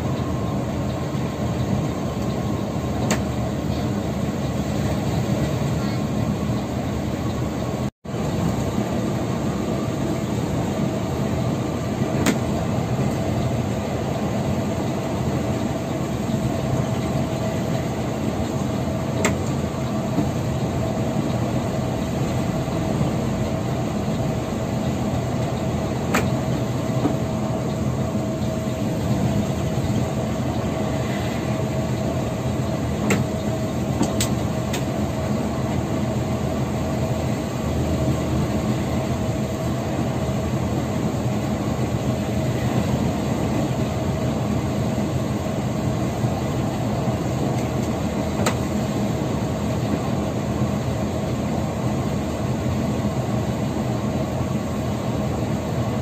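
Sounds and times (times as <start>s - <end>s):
bus engine and road noise: 0.0s - 56.0s.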